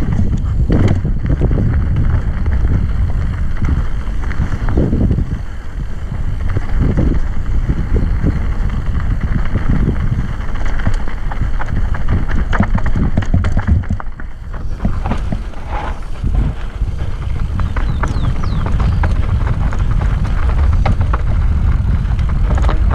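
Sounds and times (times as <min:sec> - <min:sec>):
bike rattling and clacking: 0:00.0 - 0:22.9
tyres rumbling over dirt and rocks: 0:00.0 - 0:22.9
wind buffeting microphone: 0:00.0 - 0:22.9.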